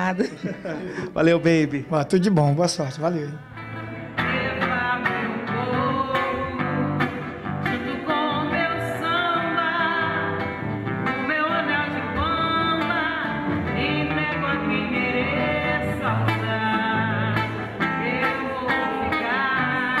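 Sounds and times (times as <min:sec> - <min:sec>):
strummed acoustic guitar: 0:00.0 - 0:20.0
woman singing: 0:03.6 - 0:20.0.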